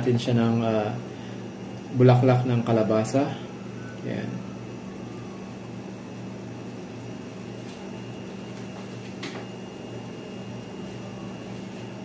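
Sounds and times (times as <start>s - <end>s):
kitchen appliance electrical hum: 0.0s - 12.0s.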